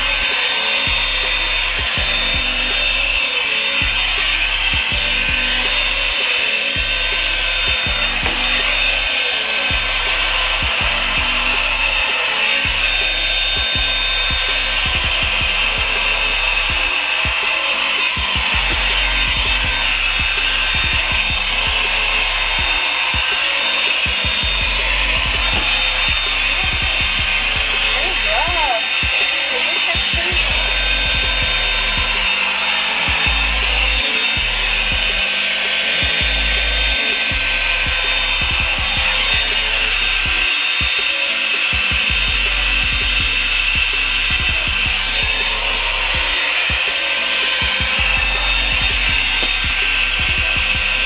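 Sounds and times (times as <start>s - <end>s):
blow dryer running: 0.0s - 51.0s.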